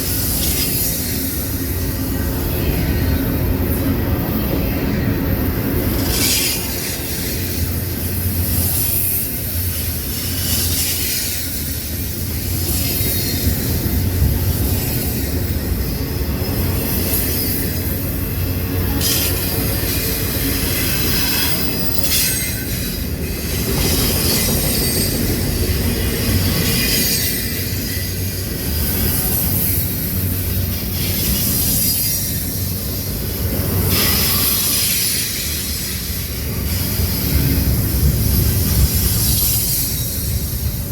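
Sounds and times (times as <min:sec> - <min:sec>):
railroad cars rumbling: 0:00.0 - 0:40.9.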